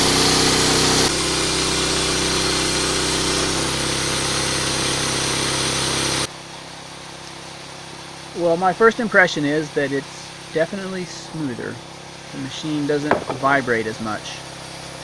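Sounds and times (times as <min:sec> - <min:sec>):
bandsaw mill engine running: 0:00.0 - 0:15.0.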